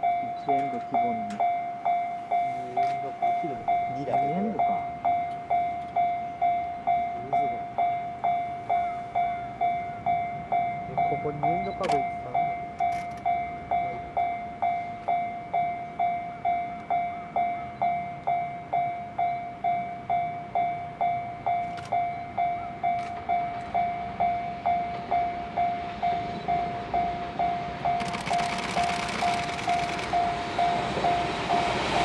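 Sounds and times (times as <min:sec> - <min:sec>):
level crossing bell ringing: 0:00.0 - 0:31.7
train rumble: 0:00.0 - 0:32.0.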